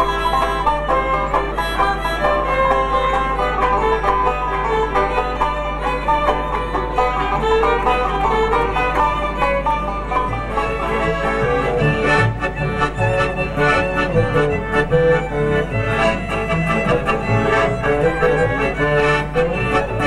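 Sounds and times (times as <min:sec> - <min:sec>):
bass notes: 0:00.0 - 0:20.0
bluegrass string-band music: 0:00.0 - 0:20.0
fiddle: 0:00.0 - 0:20.0
picked banjo notes: 0:00.0 - 0:20.0
steady low hum: 0:00.0 - 0:20.0.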